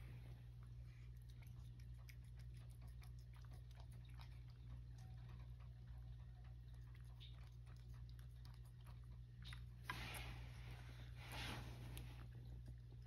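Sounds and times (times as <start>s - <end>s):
cat chewing and licking: 0.0s - 13.0s
low steady hum: 0.0s - 13.0s.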